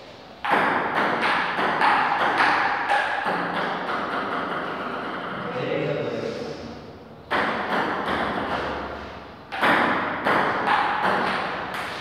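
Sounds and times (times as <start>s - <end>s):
table tennis ball bouncing: 0.4s - 5.4s, 7.2s - 12.0s.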